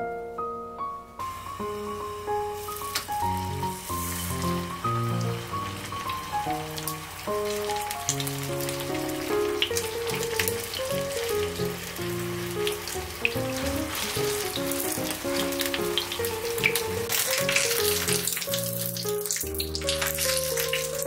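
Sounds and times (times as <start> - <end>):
melodic music: 0.0 - 21.0
food frying in oil: 1.3 - 21.0.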